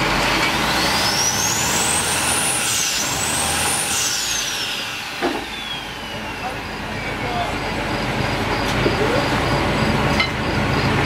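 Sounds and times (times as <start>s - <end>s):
boat engine: 0.0s - 11.0s.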